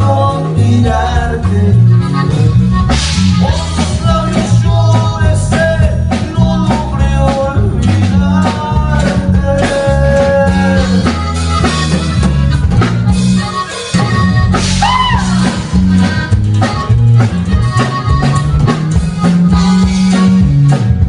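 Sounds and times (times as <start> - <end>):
band playing instrumental: 0.0 - 21.0.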